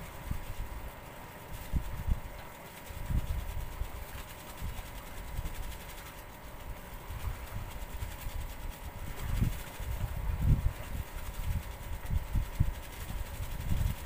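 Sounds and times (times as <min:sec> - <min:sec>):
faint steady hum: 0:00.0 - 0:14.0
wind buffeting microphone: 0:00.0 - 0:14.0.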